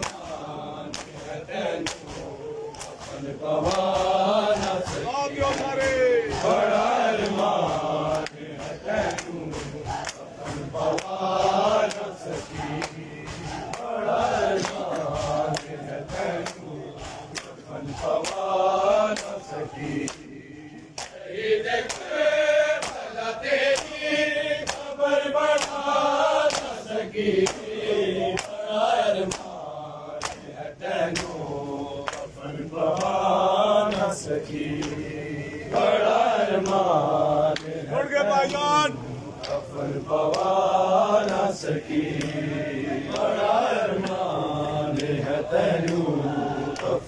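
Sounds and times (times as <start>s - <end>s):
hands slapping chests: 0.0s - 37.8s, 39.4s - 40.6s, 41.2s - 47.0s
men chanting together: 0.0s - 47.0s.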